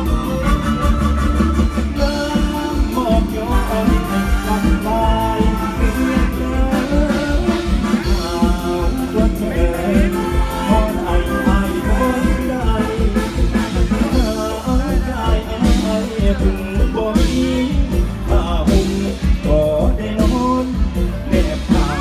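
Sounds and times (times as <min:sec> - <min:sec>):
live band with bass beat: 0:00.0 - 0:22.0
person singing: 0:00.0 - 0:22.0.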